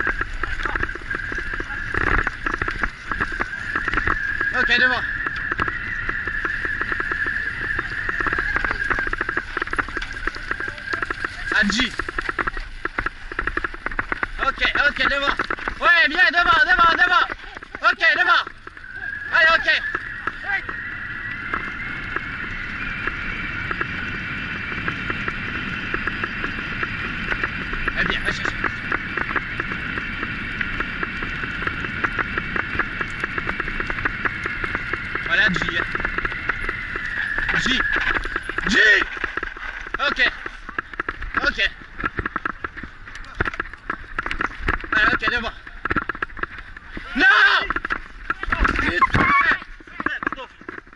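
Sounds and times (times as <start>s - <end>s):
stones clicking and knocking: 0.0s - 24.0s, 24.8s - 50.9s
bicycle tyres on gravel: 0.0s - 50.9s
bike rattling over dirt trail: 0.0s - 50.9s
high whine: 0.0s - 50.9s.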